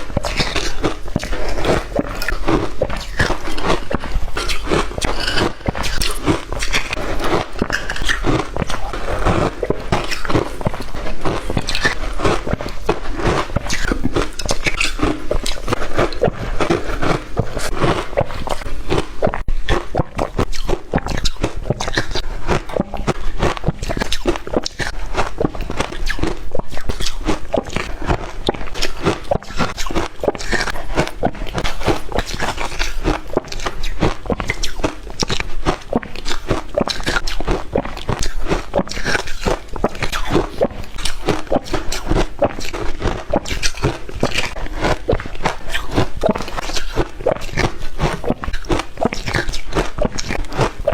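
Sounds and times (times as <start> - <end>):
shaved ice being chewed: 0.0 - 50.9.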